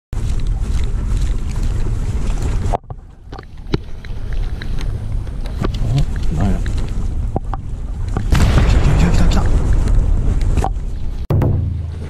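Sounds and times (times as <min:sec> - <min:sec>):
sea noise: 0:00.2 - 0:12.0
wind rumbling on microphone: 0:00.2 - 0:12.0.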